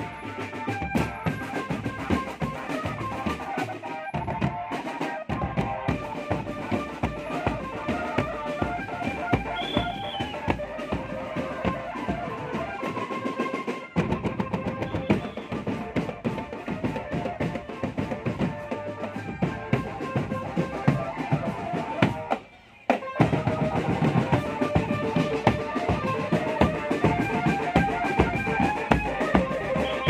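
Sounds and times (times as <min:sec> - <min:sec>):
marching drum band playing: 0:00.0 - 0:30.0.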